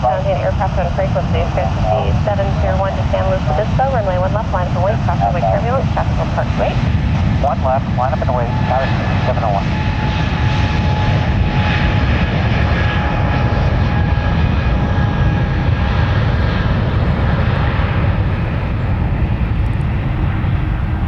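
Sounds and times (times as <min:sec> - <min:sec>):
jet engines roaring with whine: 0:00.0 - 0:21.0.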